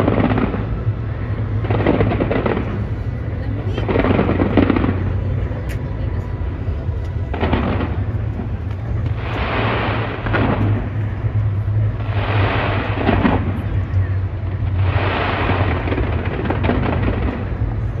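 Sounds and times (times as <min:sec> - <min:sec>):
fireworks booming: 0:00.0 - 0:05.8, 0:06.9 - 0:18.0.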